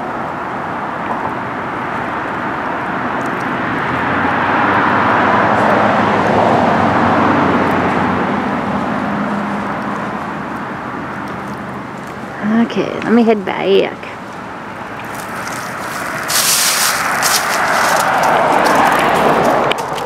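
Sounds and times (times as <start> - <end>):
vehicle driving past: 1.7 - 12.4, 14.0 - 20.0.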